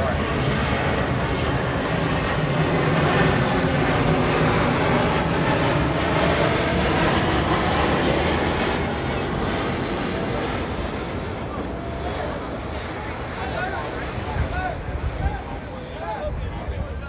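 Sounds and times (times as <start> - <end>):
high engine whine: 0.0 - 16.8
airplane engine roar: 0.0 - 17.0.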